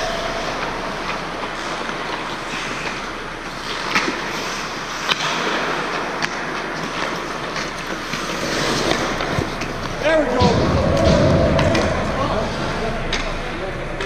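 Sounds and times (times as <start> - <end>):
skates scraping on ice: 0.1 - 12.7
hockey stick and puck clacks: 0.5 - 12.1.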